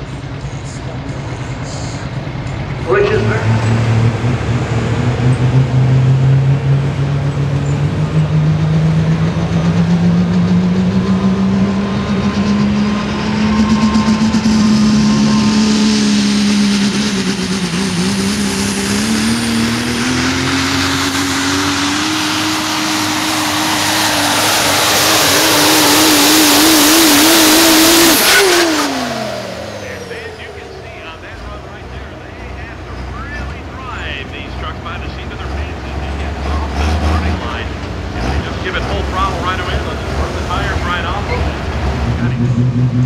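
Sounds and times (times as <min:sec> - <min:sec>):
diesel engine at full throttle: 0:00.0 - 0:43.0.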